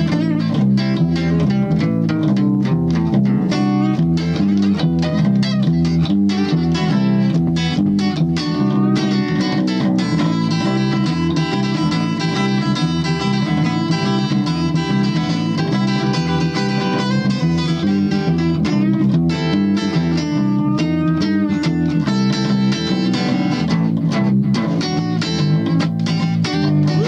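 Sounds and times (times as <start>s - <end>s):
acoustic guitar: 0.0s - 27.0s
deep bass line: 0.0s - 27.0s.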